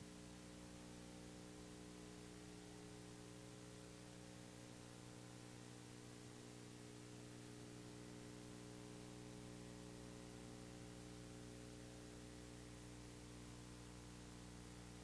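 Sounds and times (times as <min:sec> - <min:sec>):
low electrical hum and hiss: 0:00.0 - 0:15.0.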